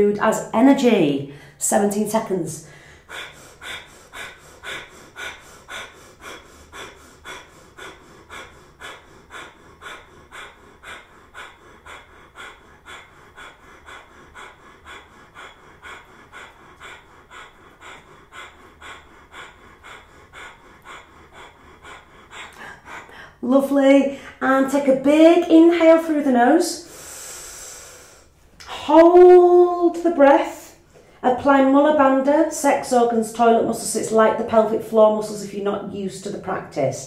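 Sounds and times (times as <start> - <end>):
rapid rhythmic nose breathing: 0.0 - 37.0.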